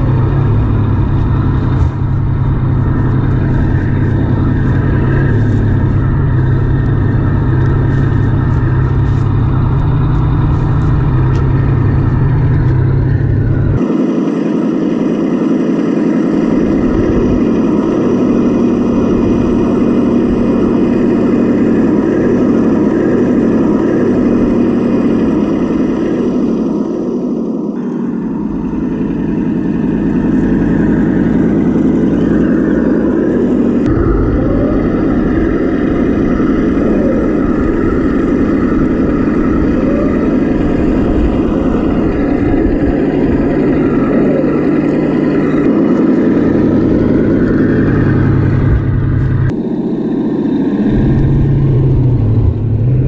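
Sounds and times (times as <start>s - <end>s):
model tank engine drone: 0.0s - 53.0s
track noise: 0.0s - 53.0s.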